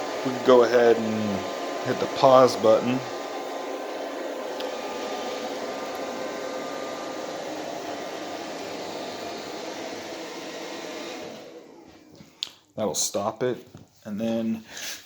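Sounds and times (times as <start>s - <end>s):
robot vacuum whirring: 0.0s - 12.2s.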